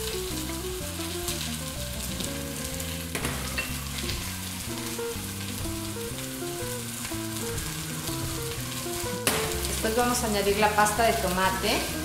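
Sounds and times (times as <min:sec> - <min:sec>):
background music: 0:00.0 - 0:12.0
vegetables sizzling in oil: 0:00.0 - 0:12.0.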